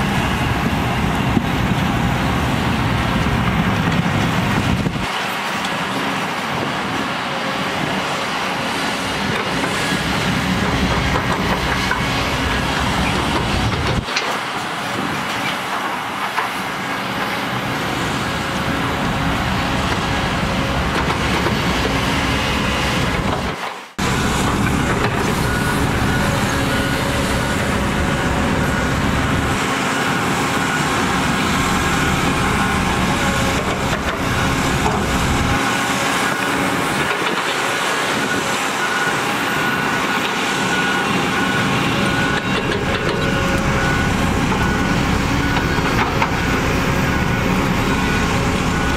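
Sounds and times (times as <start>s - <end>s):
crawler dozer engine running: 0.0s - 48.9s
excavator diesel engine running: 0.0s - 48.9s.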